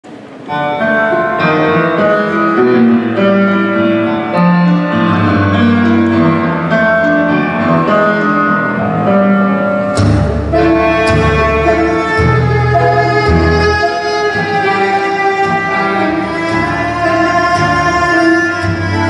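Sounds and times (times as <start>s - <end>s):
slow rubato piano: 0.1s - 19.0s
orchestra with heavy bass accent: 1.1s - 19.0s.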